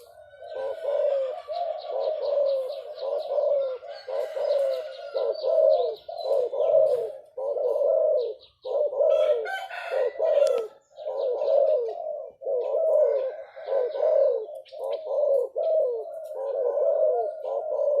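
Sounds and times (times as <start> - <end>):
doves cooing: 0.0 - 18.0
small birds chirping: 0.0 - 18.0.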